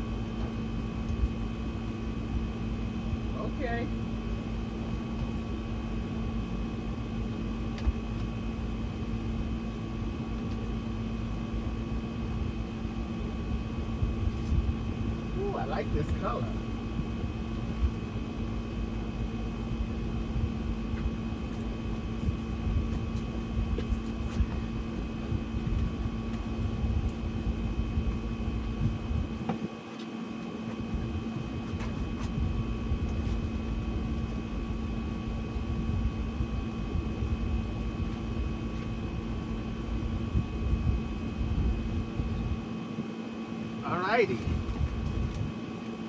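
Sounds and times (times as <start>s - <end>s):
mechanical hum: 0.0s - 46.0s.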